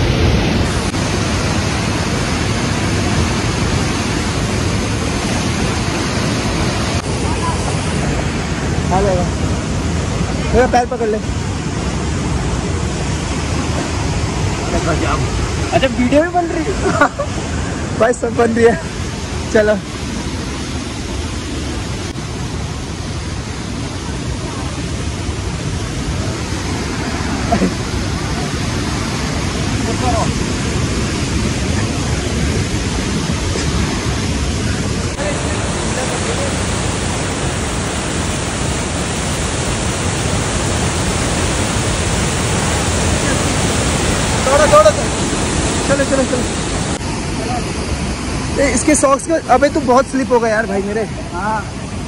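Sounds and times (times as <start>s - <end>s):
waterfall rushing: 0.0s - 52.0s
white-water stream: 0.0s - 52.0s.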